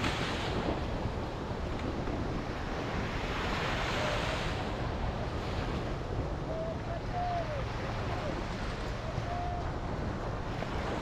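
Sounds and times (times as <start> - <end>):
waves washing on sandy beach: 0.0 - 11.0
wind on microphone: 0.0 - 11.0.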